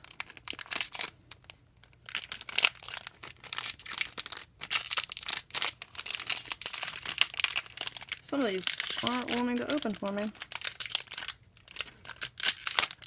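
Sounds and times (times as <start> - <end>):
wrapper tearing and crinkling: 0.0 - 13.0.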